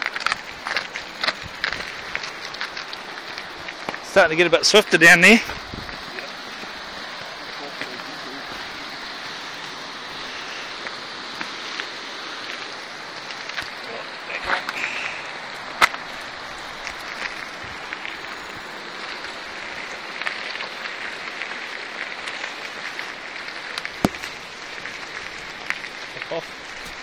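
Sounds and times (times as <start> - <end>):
bike rattling over bumps: 0.0 - 27.0
bike tyres crackling on grit: 0.0 - 27.0.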